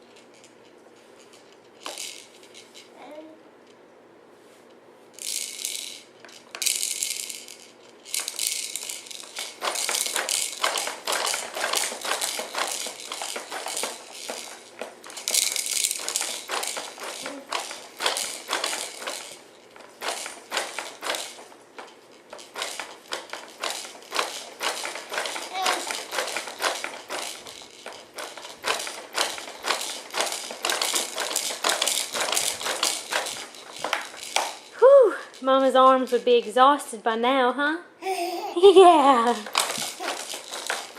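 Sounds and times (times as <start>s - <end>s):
baby bouncer rattling and clicking: 1.2s - 3.3s, 5.2s - 36.5s, 38.0s - 40.9s.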